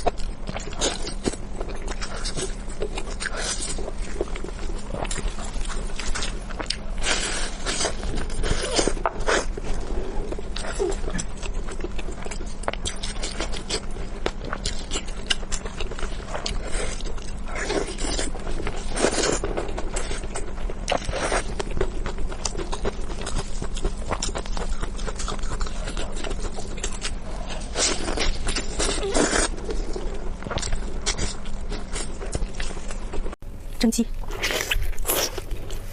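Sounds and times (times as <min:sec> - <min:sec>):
low steady hum: 0:00.0 - 0:35.9
wet chewing and mouth clicks: 0:00.0 - 0:35.9.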